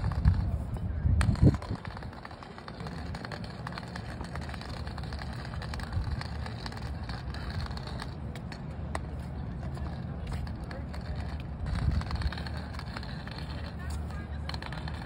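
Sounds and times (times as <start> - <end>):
cane tapping on brick paving: 0.0 - 15.0.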